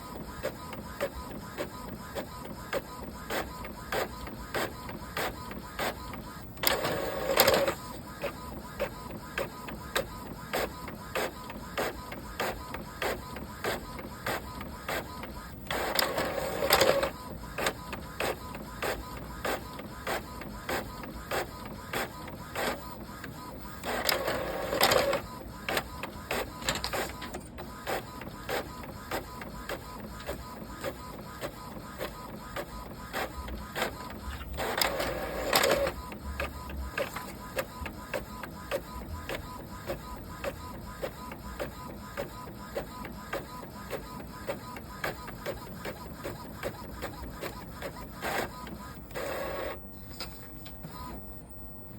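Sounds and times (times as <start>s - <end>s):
printer clicking: 0.0s - 51.2s
printer whirring burst: 0.0s - 51.9s.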